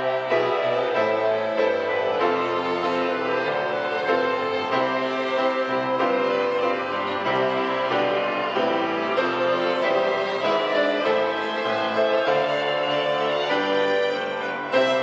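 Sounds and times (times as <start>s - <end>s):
violins playing melody: 0.0s - 15.0s.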